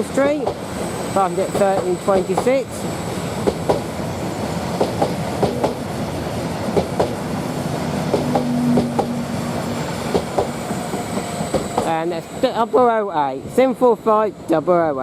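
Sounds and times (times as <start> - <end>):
train steady hum: 0.0 - 15.0.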